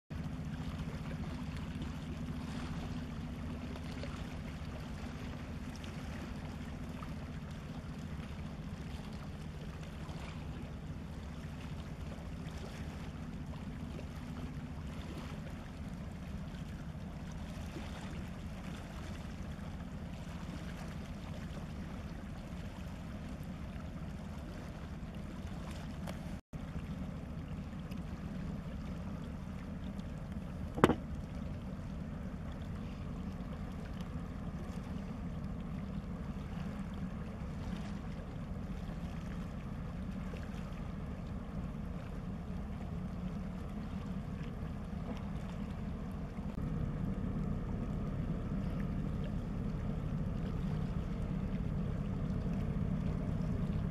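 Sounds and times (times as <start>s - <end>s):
ship diesel engine drone: 0.1s - 53.9s
water noise: 0.1s - 53.9s.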